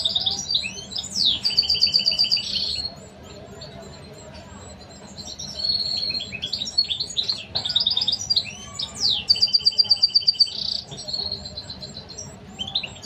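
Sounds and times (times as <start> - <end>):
nestlings begging chirps: 0.0 - 13.0
repeated loud bird notes: 0.0 - 13.0.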